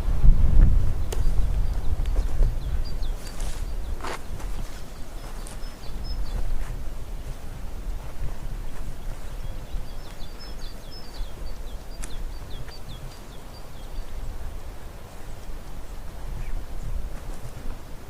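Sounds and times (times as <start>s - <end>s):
songbird chirping: 0.9s - 18.0s.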